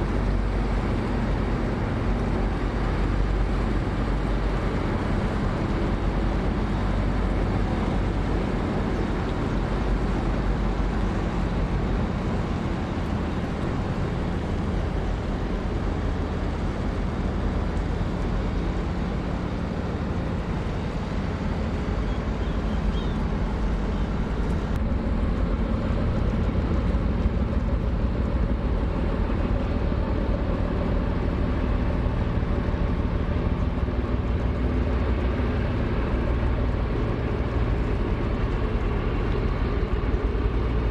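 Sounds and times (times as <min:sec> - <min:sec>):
barge engine droning: 0:00.0 - 0:40.9.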